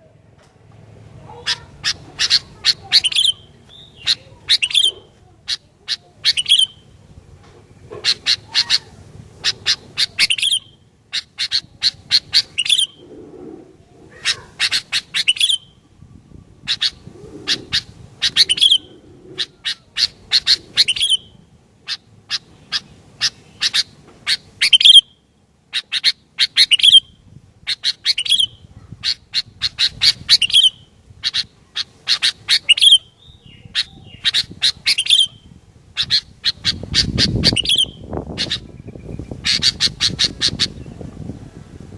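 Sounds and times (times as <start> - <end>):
bulbul chattering calls: 1.1 - 7.0, 7.7 - 41.3.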